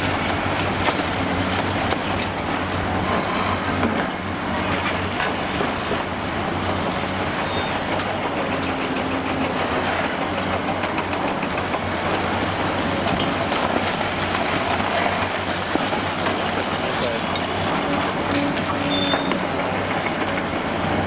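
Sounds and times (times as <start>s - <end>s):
concrete rubble crunching: 0.0s - 21.0s
excavator diesel engines: 0.0s - 21.0s.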